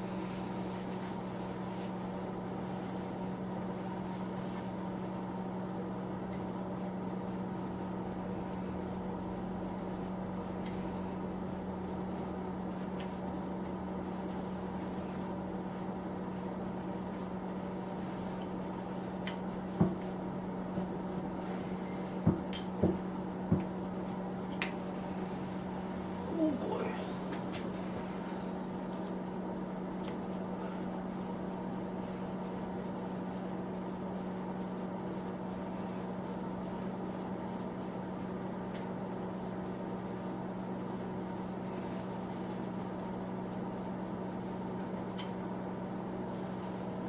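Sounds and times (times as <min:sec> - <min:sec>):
space heater humming: 0:00.0 - 0:47.0.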